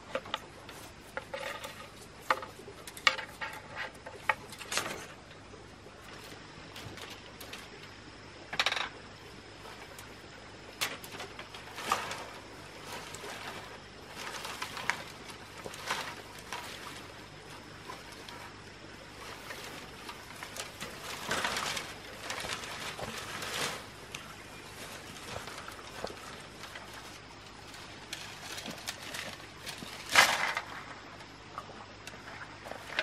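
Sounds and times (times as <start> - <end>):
bamboo strips rustling and clicking: 0.0 - 9.0, 9.6 - 33.0.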